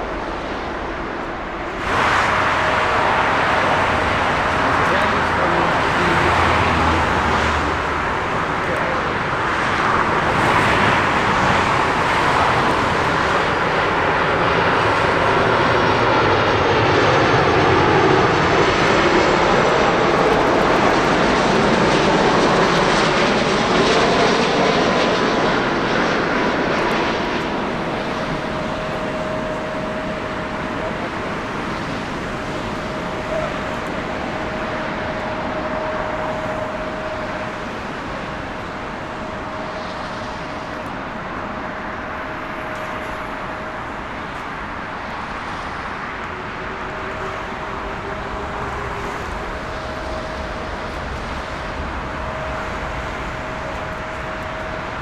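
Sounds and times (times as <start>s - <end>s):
jet airliner engines roaring: 0.0s - 55.0s
jet engine whine: 0.0s - 55.0s.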